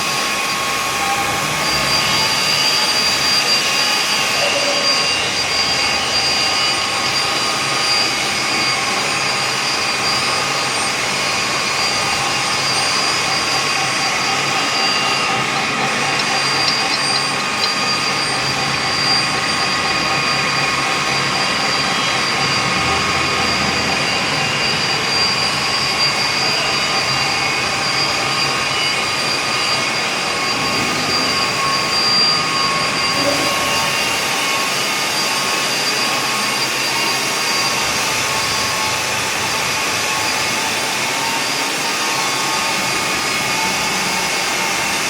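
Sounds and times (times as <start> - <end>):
milling machine whine: 0.0 - 45.0.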